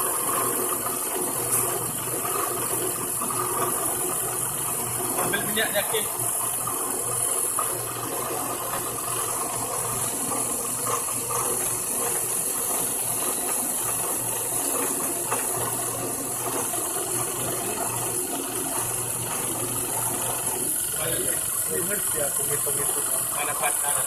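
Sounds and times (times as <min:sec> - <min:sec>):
lathe whirr and gear noise: 0:00.0 - 0:24.0.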